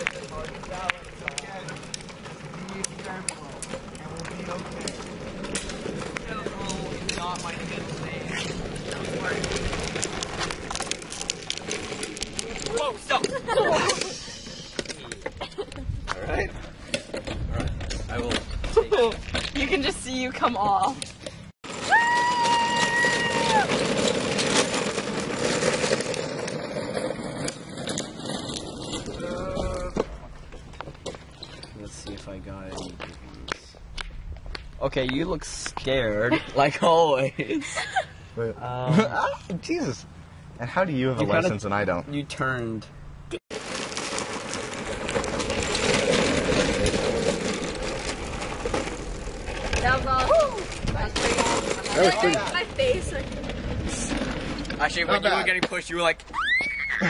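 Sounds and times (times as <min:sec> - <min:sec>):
go-kart wheels rumbling on rough ground: 0:00.0 - 0:33.8, 0:38.6 - 0:57.0.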